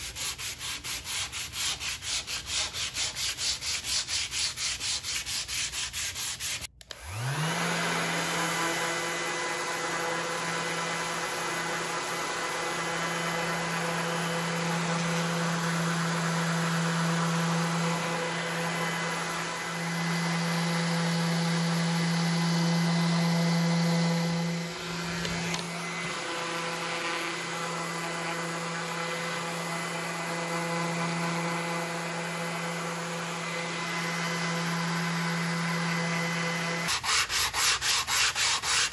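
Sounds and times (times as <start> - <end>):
hand sanding block strokes: 0.0 - 6.7, 9.7 - 38.9
orbital sander humming: 4.8 - 38.9.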